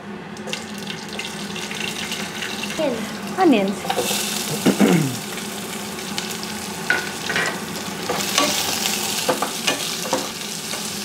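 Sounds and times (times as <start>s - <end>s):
onions sizzling in hot oil: 0.5s - 11.0s.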